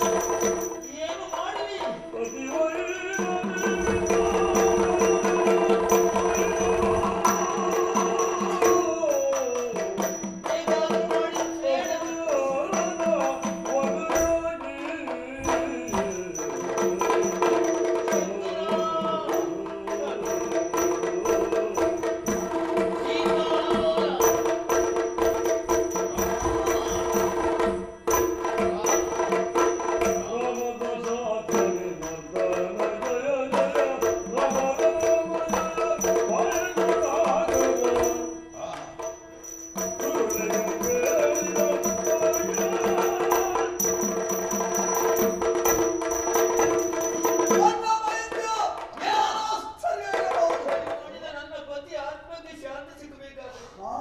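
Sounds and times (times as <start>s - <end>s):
small cymbals: 0.0s - 47.9s
person singing: 0.0s - 52.3s.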